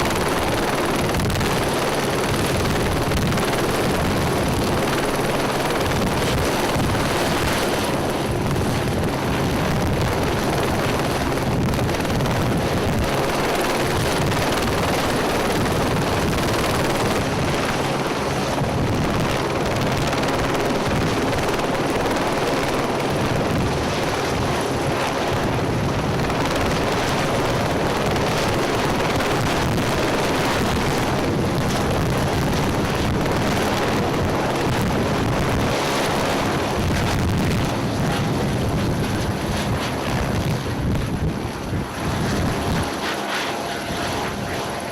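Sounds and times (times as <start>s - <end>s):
helicopter rotor and engine: 0.0s - 44.9s.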